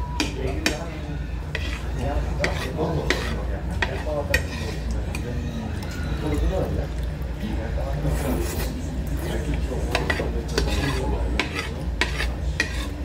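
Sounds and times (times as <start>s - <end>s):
utensils clinking on a plate: 0.1s - 7.1s, 8.1s - 13.0s.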